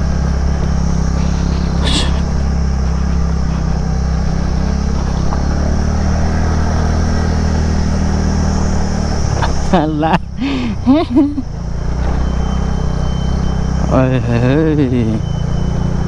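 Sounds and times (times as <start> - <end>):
scooter engine running: 0.0 - 16.0.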